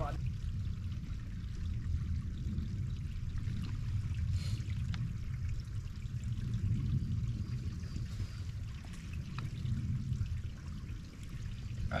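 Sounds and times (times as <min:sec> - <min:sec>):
water running from metal pipe: 0:00.0 - 0:12.0.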